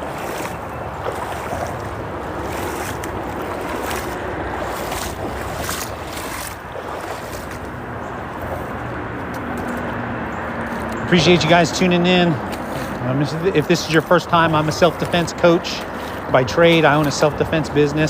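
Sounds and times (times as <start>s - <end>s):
freeway traffic drone: 0.0s - 18.0s
stream rushing: 0.0s - 18.0s.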